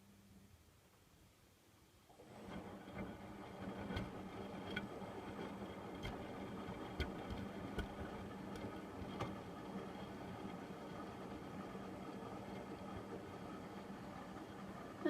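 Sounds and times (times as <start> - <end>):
washing machine motor hum: 1.6 - 15.0.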